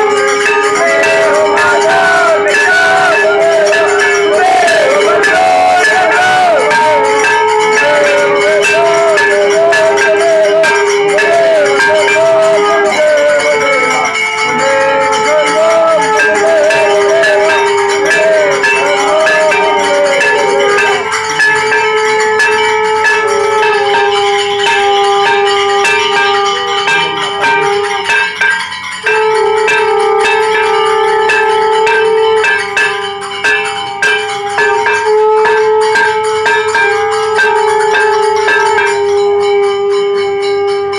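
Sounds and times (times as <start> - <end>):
bells ringing rapidly: 0.0 - 40.9
conch shell blown: 0.0 - 40.9.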